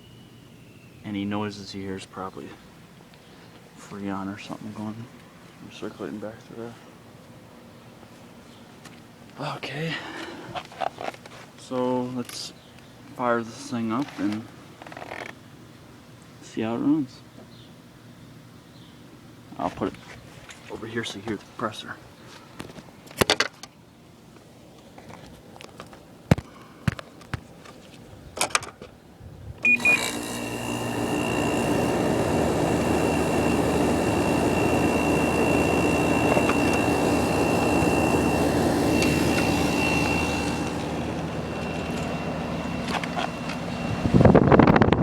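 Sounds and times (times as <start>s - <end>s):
air conditioner running: 0.0s - 23.1s, 29.0s - 45.0s.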